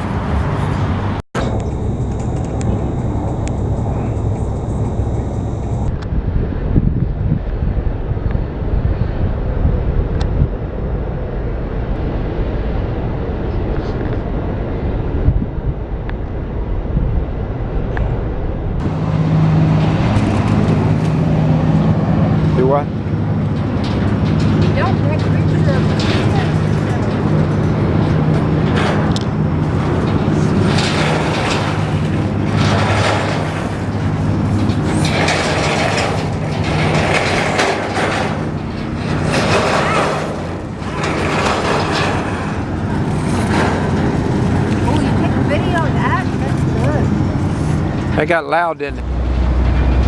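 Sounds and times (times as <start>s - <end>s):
boat engine rumble: 0.0s - 50.0s
rushing noise: 0.0s - 50.0s.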